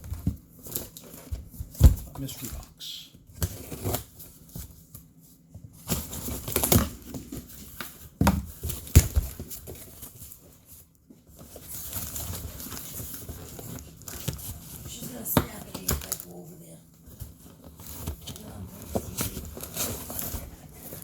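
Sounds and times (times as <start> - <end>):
packaging crinkling and rustling: 0.0 - 2.6, 3.4 - 21.0.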